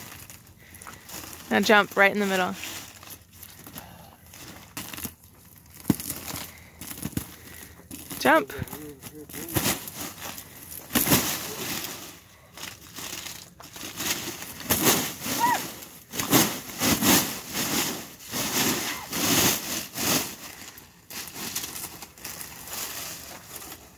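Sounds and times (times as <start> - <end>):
ice crunching and cracking: 0.0 - 23.9.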